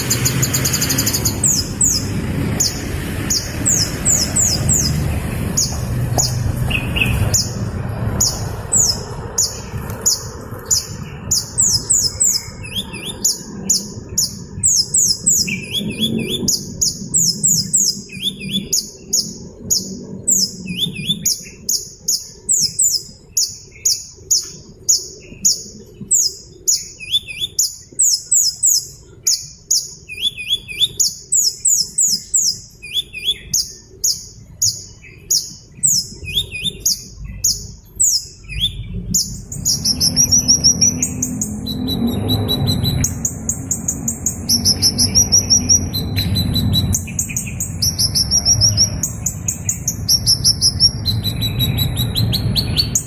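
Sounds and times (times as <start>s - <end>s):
small bird chirping: 0.0s - 53.0s.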